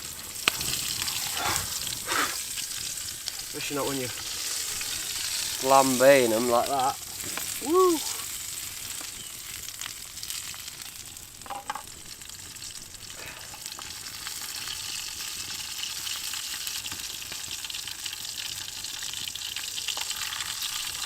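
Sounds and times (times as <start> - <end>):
mushrooms sizzling in a pan: 0.0 - 21.0
small crackles: 0.0 - 21.0.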